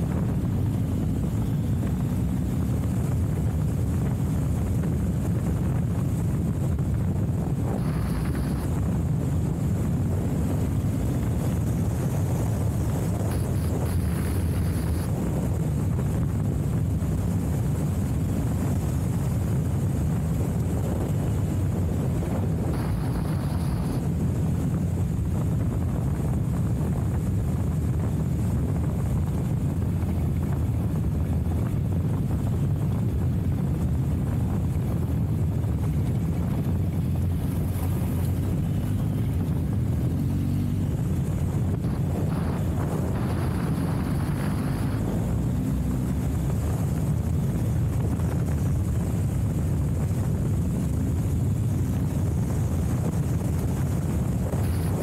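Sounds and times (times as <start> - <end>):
vehicle driving on gravel: 0.0 - 55.0.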